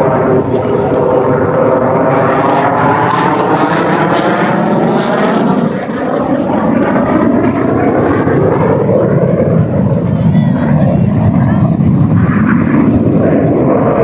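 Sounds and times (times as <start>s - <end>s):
fighter jet engine rush: 0.0s - 14.0s.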